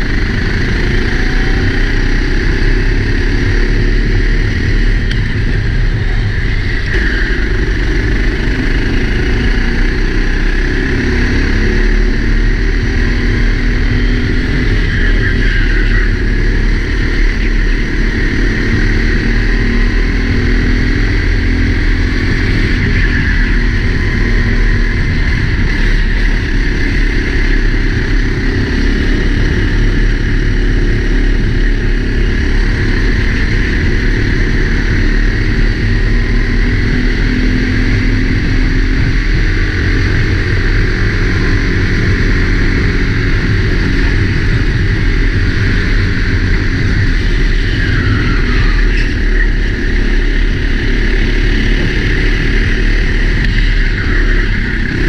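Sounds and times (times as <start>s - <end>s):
kart engine accelerating and slowing: 0.0s - 55.0s
low rumble: 0.0s - 55.0s.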